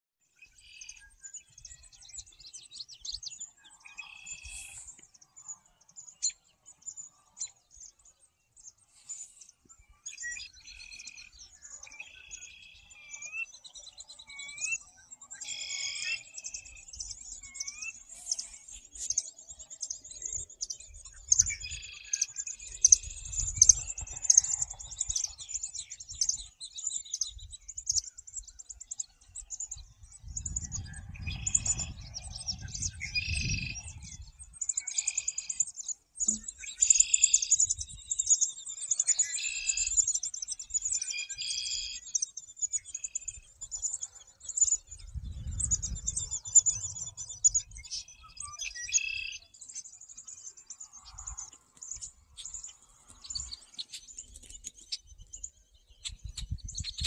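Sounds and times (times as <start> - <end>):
birds singing and chirping: 0.3 - 57.0.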